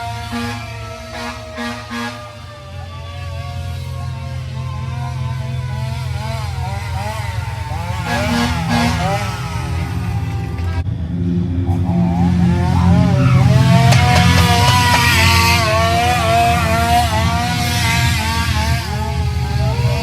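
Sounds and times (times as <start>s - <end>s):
siren yelping: 0.0s - 10.8s, 11.7s - 20.0s.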